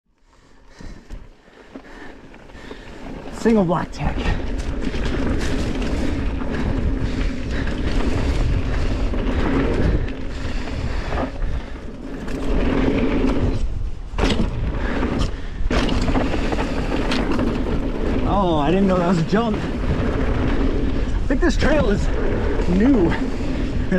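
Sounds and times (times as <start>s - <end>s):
bike tyres rumbling over dirt: 0.2s - 23.9s
wind buffeting microphone: 0.8s - 23.9s.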